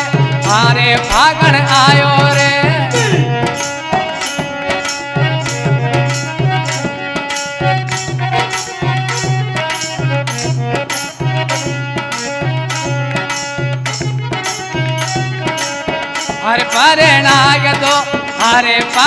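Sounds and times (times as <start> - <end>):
hand drums beating: 0.0 - 19.0
held melody line: 0.0 - 19.0.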